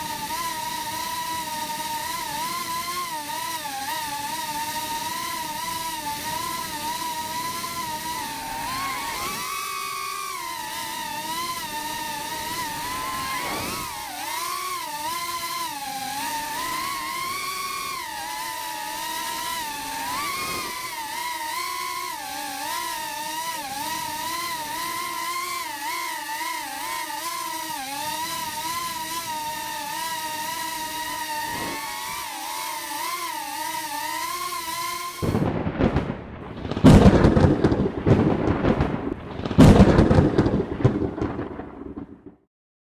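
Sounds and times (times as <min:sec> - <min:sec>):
quadcopter motors whining: 0:00.0 - 0:35.7, 0:36.6 - 0:38.8, 0:39.4 - 0:41.1
loud rough noise: 0:00.0 - 0:42.0.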